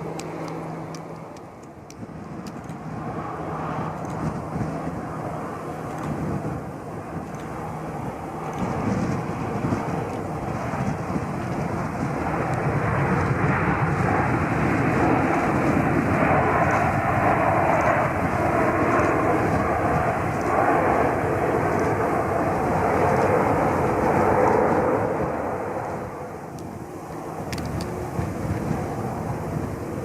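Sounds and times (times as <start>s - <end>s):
airliner engine rushing: 0.0s - 30.0s.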